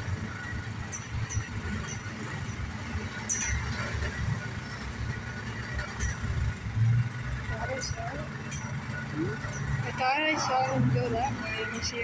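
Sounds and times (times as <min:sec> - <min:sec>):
traffic rumbling: 0:00.0 - 0:12.0.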